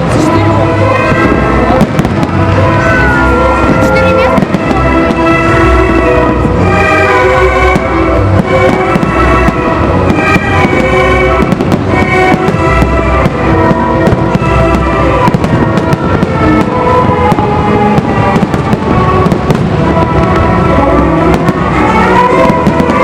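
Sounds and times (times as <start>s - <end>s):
fireworks bursting: 0.0s - 23.0s
loud music with sustained notes: 0.0s - 23.0s.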